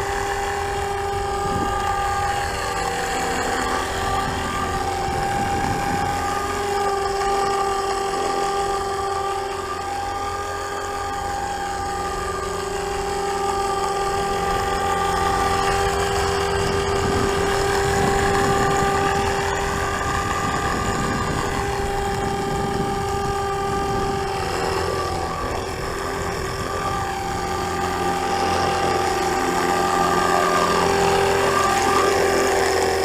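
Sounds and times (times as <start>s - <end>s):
model helicopter rotor whine: 0.0s - 33.0s.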